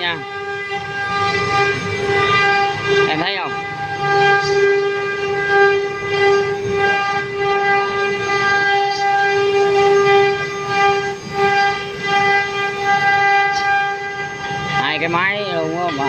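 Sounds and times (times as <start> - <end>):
router spindle carving wood: 0.0 - 16.0.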